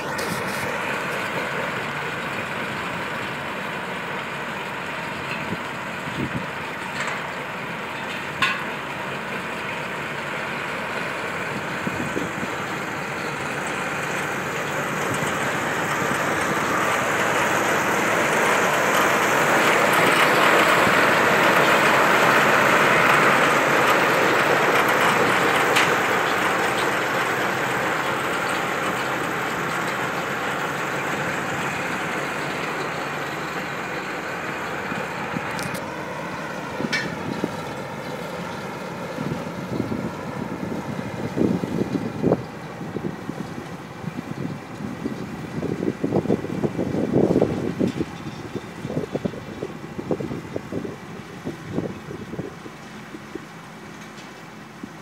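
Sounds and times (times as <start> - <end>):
round baler running: 0.0 - 55.0
tractor engine: 0.0 - 55.0.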